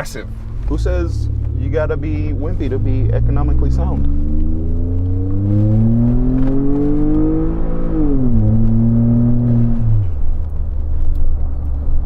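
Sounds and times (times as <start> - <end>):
truck engine accelerating hard: 0.0 - 12.0.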